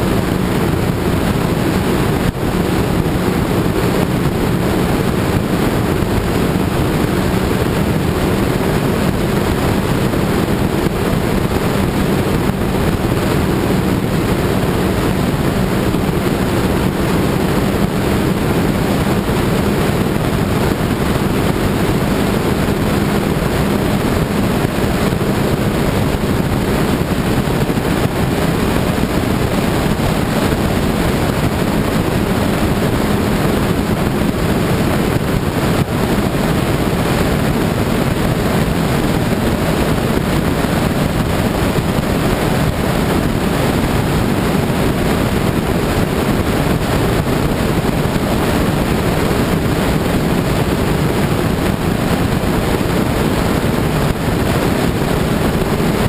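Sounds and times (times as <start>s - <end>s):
motorcycle engine droning: 0.0s - 56.0s
wind on microphone: 0.0s - 56.0s.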